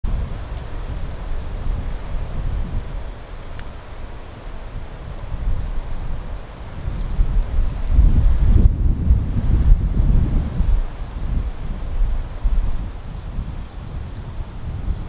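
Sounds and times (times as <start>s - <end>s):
wind rumble on microphone: 0.0s - 15.0s
insects trilling: 0.1s - 15.0s.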